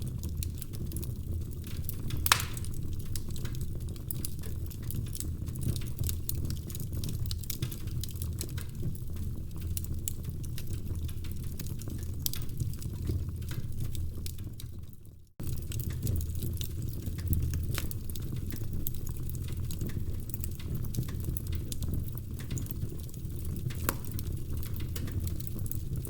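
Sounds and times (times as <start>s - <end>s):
low rumble of burning logs: 0.0s - 26.0s
wood fire crackling and popping: 0.0s - 26.0s.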